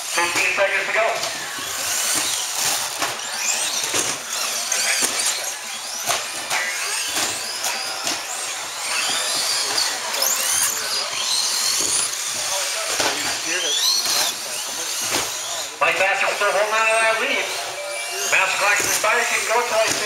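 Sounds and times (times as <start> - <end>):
rc truck motors whining: 0.0 - 20.0.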